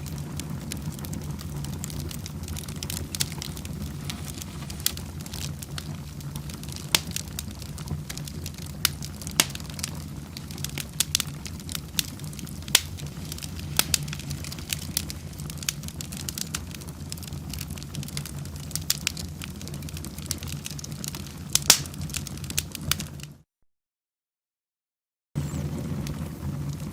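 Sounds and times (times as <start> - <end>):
fire crackling and popping: 0.0 - 23.4, 25.4 - 26.9
rumble of fire flames: 0.0 - 23.4, 25.4 - 26.9.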